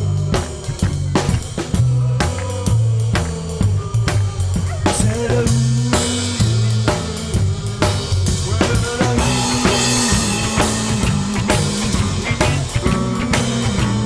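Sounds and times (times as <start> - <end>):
double bass notes: 0.0 - 14.0
drum kit with snare and rimshots: 0.0 - 14.0
rockabilly band playing: 0.0 - 14.0.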